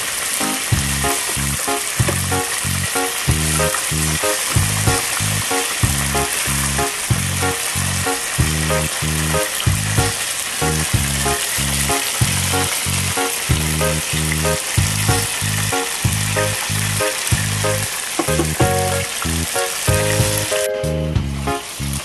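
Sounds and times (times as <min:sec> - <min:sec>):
hot oil sizzling and crackling: 0:00.0 - 0:22.0
background music with steady beat: 0:00.4 - 0:21.8.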